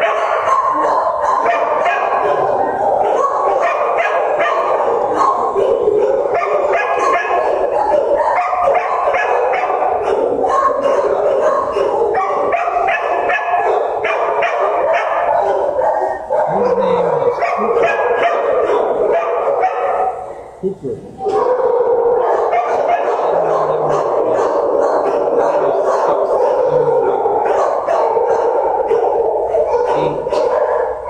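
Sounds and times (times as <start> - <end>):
many dogs barking: 0.0 - 20.6, 21.2 - 31.0.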